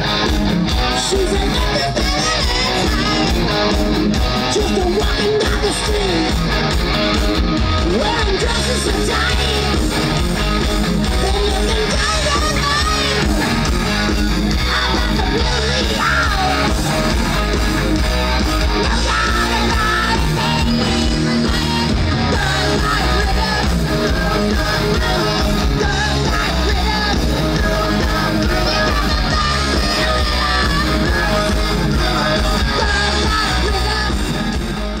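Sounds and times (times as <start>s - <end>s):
person singing: 0.0s - 6.4s, 7.8s - 35.0s
electric guitar: 0.0s - 35.0s.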